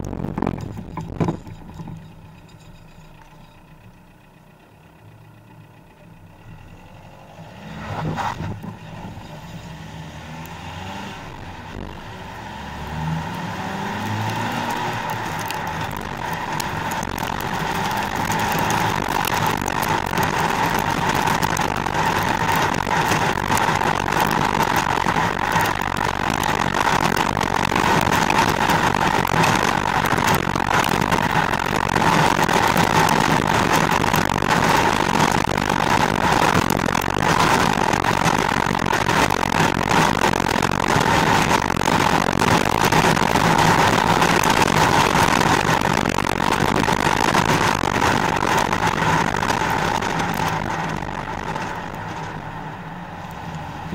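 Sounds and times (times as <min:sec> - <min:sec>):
low engine rumble: 0:00.0 - 0:53.9
tyre and road noise: 0:00.0 - 0:53.9.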